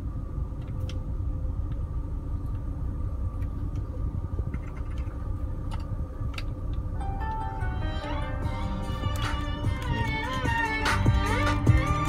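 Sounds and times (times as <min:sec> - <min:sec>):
car engine idling: 0:00.0 - 0:12.0
faint higher hum: 0:00.0 - 0:12.0.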